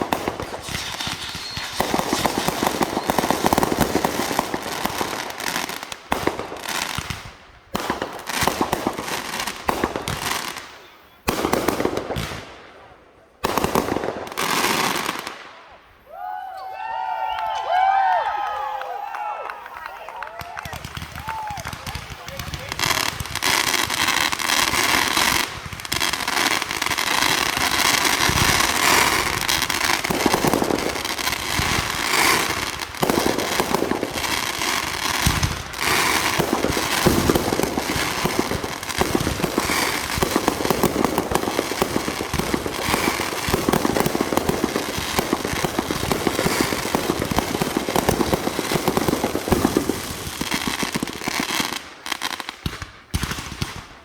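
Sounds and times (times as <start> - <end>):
fireworks popping: 0.0 - 15.4, 19.6 - 54.0.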